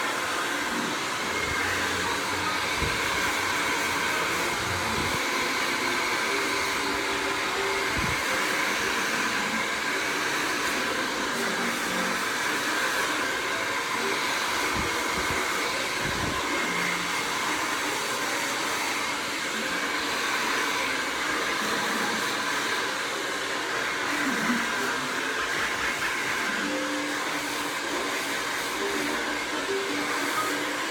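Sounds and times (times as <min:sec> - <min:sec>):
hair dryer running: 0:00.0 - 0:30.9.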